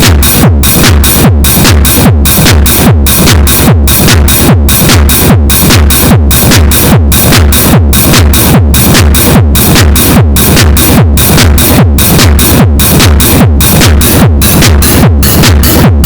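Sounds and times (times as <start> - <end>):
distorted techno beat: 0.0 - 16.0
kick drum: 0.0 - 16.0.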